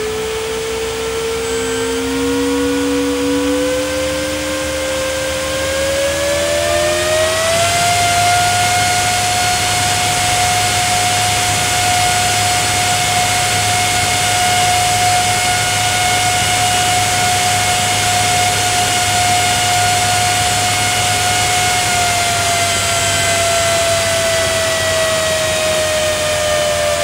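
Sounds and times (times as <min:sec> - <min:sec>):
fan whine: 0:00.0 - 0:27.0.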